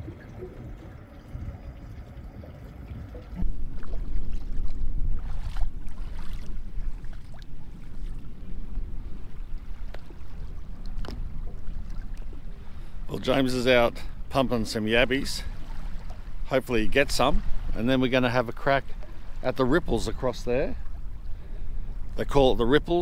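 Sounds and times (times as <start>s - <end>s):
water lapping against boat hull: 0.0s - 23.0s
wind rumble on microphone: 0.0s - 23.0s.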